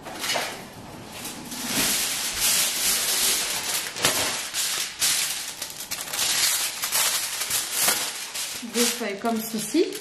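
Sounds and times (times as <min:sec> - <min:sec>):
aluminium foil crinkling: 0:01.1 - 0:10.0.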